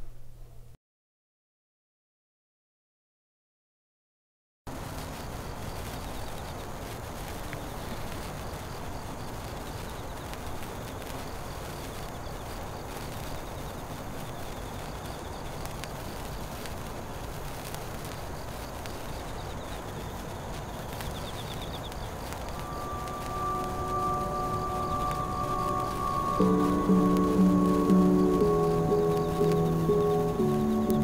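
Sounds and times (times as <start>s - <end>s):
insects chirping: 4.7s - 31.0s
outdoor background hiss: 4.7s - 31.0s.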